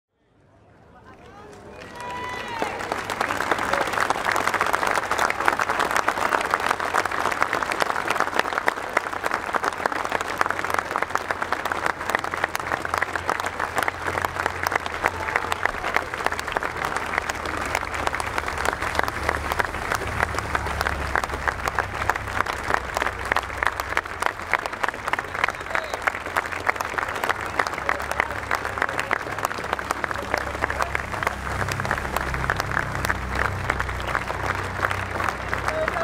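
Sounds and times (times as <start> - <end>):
stadium crowd applauding: 0.8 - 36.0.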